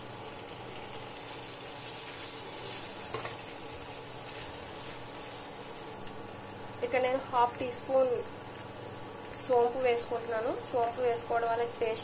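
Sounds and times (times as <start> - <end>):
curry sizzling in a frying pan: 0.0 - 12.0.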